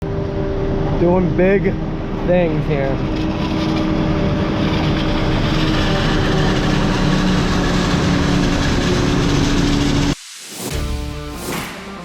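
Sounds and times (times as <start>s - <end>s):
heavy diesel engine running: 0.1s - 10.2s.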